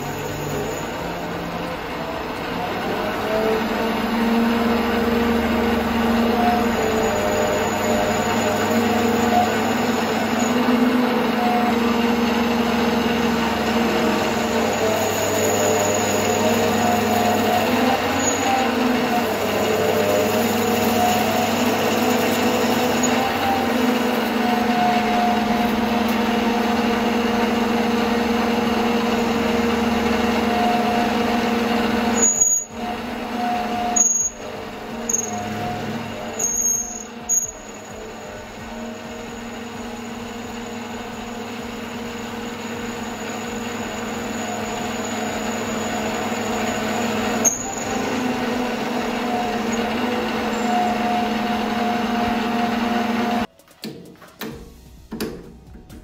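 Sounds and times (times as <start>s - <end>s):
metal lathe whine: 0.0s - 53.5s.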